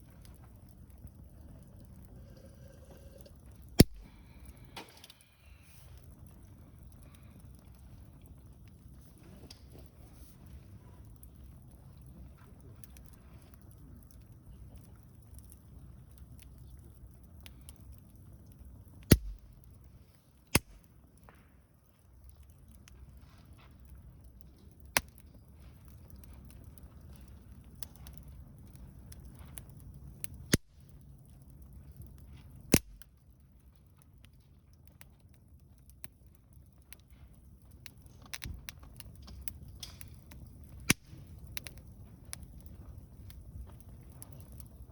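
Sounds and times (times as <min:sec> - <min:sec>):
burning wood popping: 0:00.0 - 0:44.9
campfire crackling: 0:00.0 - 0:44.9.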